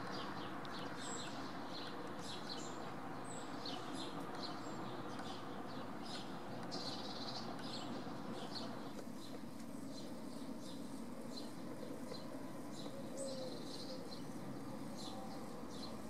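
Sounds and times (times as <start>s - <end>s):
small birds chirping: 0.0s - 16.0s
steady background noise: 0.0s - 16.0s.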